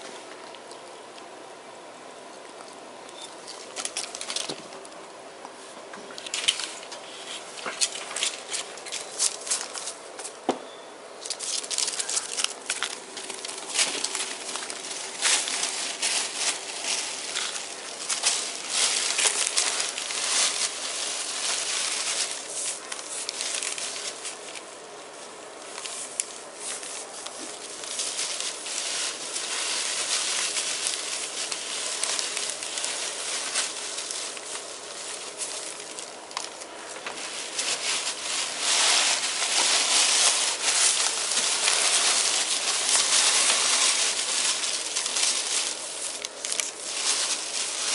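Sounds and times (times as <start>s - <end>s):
ferrets scrabbling and rustling: 2.4s - 10.4s, 11.1s - 47.9s.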